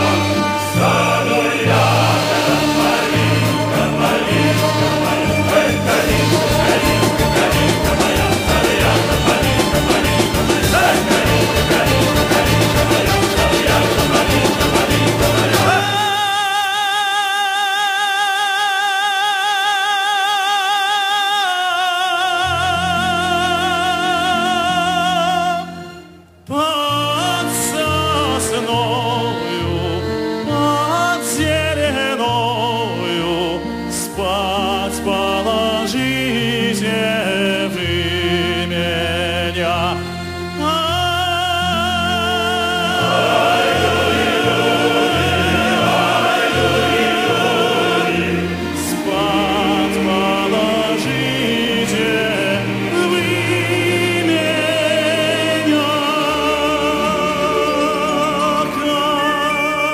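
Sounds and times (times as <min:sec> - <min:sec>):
low orchestral accompaniment: 0:00.0 - 0:16.3, 0:22.5 - 0:59.9.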